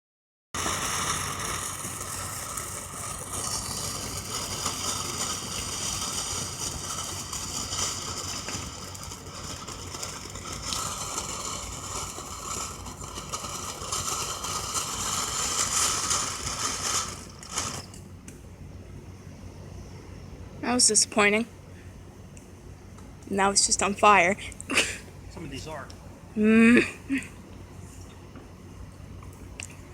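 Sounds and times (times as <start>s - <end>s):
firework fountain hissing and crackling: 0.6s - 29.9s.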